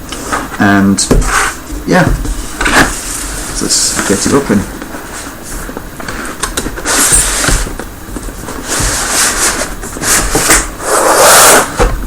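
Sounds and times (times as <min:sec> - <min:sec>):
cardboard rubbing and scraping: 0:00.3 - 0:12.0.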